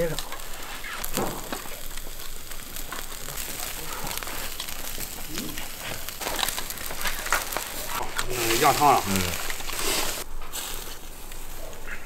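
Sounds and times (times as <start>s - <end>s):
meat sizzling on a grill: 0.0s - 11.8s
charcoal crackling and popping: 0.0s - 12.0s.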